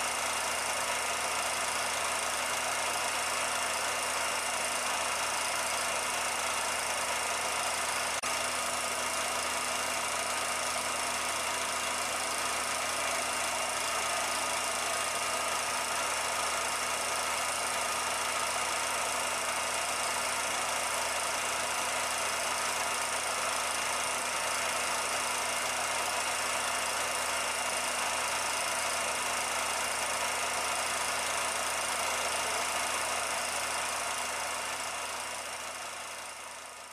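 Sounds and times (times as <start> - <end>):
machine running with hiss and hum: 0.0 - 36.9.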